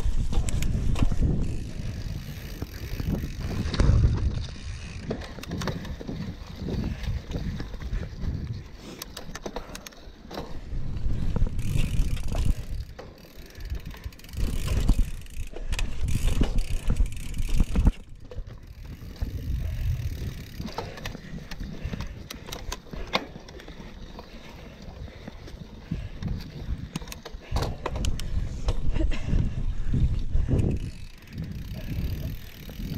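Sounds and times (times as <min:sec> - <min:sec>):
bike clicking and rattling: 0:00.0 - 0:32.9
bike tyres rumbling over ground: 0:00.0 - 0:32.9.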